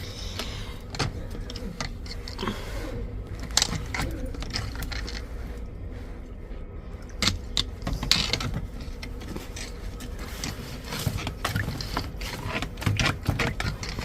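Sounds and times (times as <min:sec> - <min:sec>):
drain rods clinking and scraping: 0:00.0 - 0:06.3, 0:06.9 - 0:14.0.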